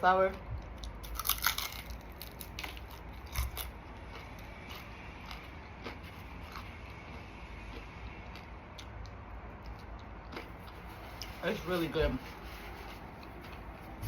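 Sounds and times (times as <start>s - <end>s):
person chewing crispy food: 0.3s - 14.0s.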